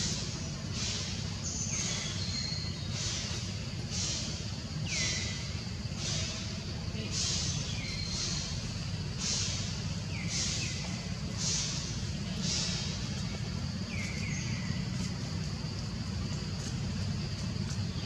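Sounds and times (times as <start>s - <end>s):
high hissing calls: 0.0s - 18.0s
steady low rumble: 0.0s - 18.0s.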